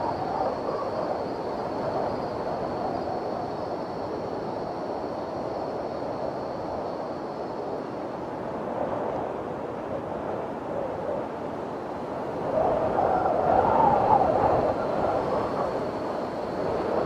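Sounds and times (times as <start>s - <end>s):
blizzard wind blowing: 0.0s - 17.0s.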